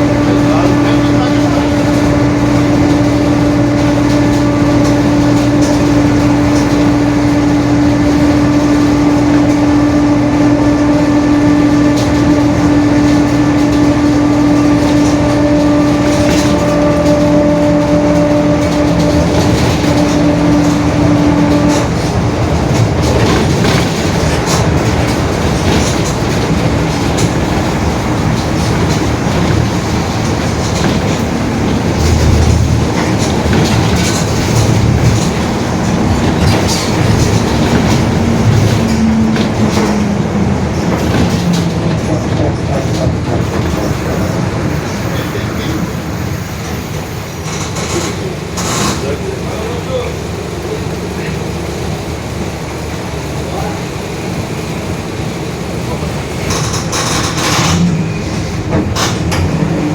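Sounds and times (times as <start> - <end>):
rattles and clicks: 0.0 - 49.5, 55.8 - 59.9
bus diesel engine running: 0.0 - 59.9.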